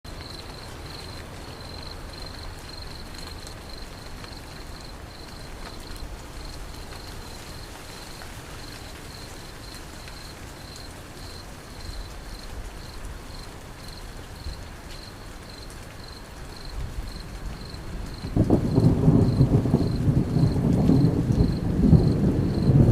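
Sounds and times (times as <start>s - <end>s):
cricket chirping: 0.1s - 22.9s.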